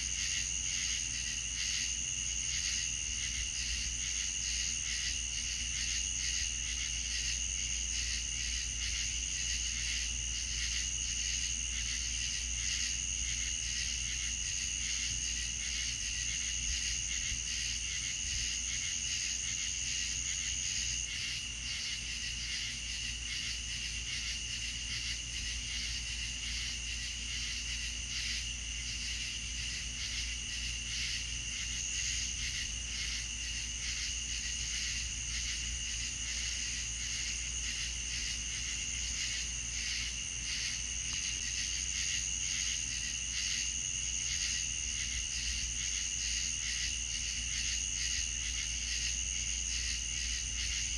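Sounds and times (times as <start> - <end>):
crickets and insects trilling: 0.0 - 50.9.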